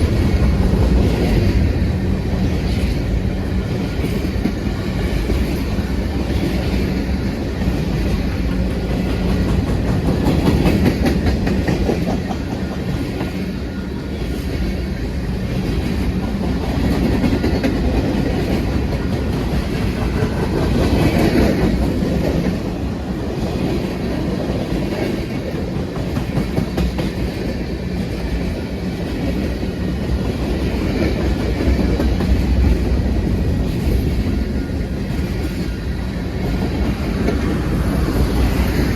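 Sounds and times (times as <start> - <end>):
freight train rumble: 0.0 - 38.9
train wheels clattering over rail joints: 0.0 - 38.9.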